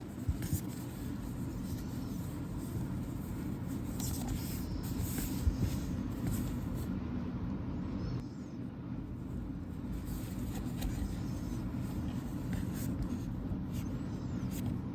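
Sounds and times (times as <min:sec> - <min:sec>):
low background rumble: 0:00.0 - 0:14.9.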